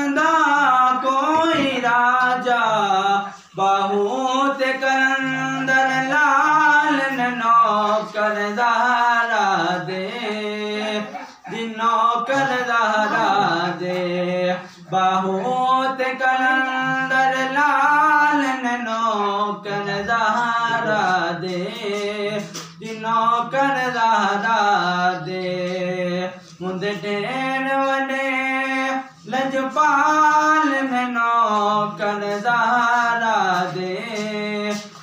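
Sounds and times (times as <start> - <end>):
man singing unaccompanied: 0.0 - 35.0.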